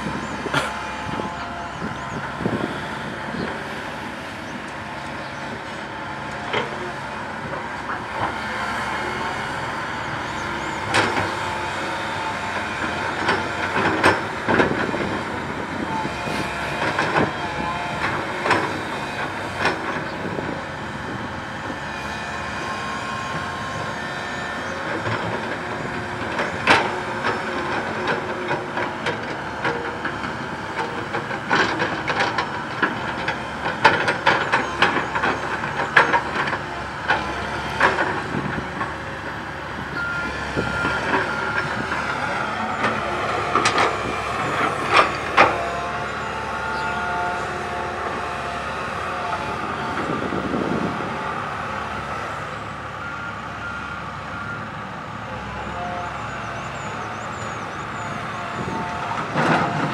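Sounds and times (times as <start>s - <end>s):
excavator diesel engine: 0.0s - 59.9s.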